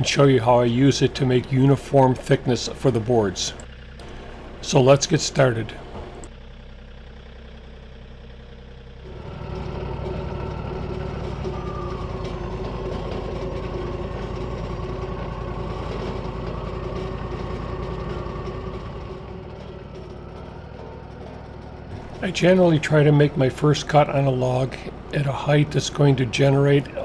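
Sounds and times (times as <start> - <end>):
sawmill engine running: 0.0 - 27.0.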